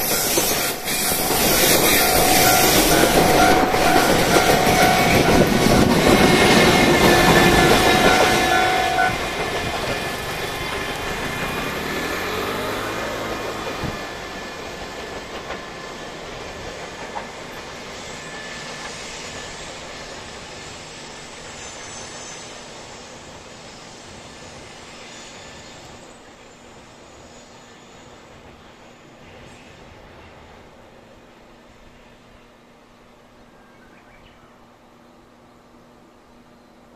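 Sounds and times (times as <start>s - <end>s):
electric locomotive motor whine: 0.0s - 36.9s
rail noise: 0.0s - 36.9s.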